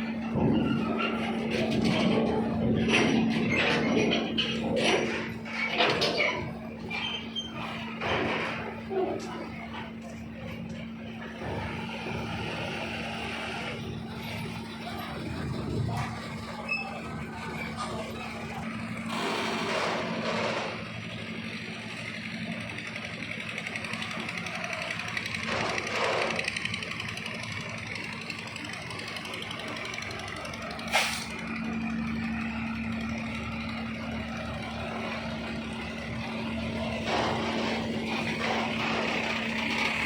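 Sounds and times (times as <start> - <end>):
heavy truck engine humming: 0.0 - 40.0.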